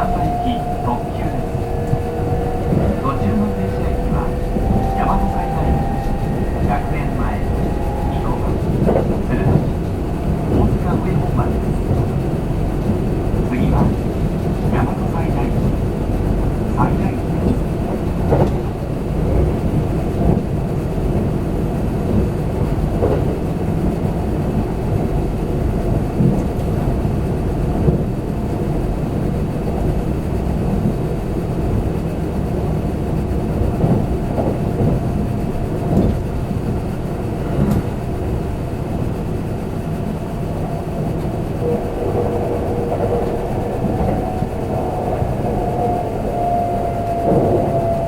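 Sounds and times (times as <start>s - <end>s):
train running rumble: 0.0s - 48.0s.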